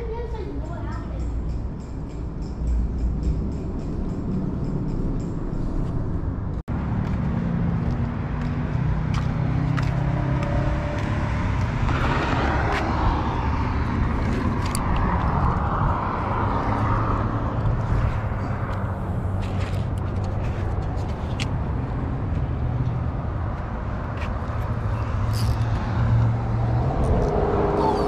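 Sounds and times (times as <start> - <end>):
rumble of passing cars: 0.0 - 28.0.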